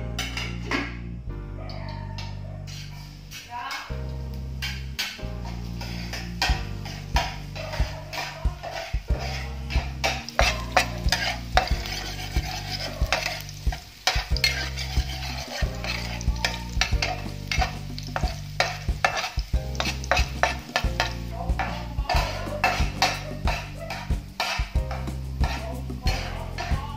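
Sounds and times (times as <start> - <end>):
garlic sizzling in oil: 0.0 - 1.0, 2.2 - 26.9
spatula scraping frying pan: 0.0 - 1.0, 2.1 - 26.9.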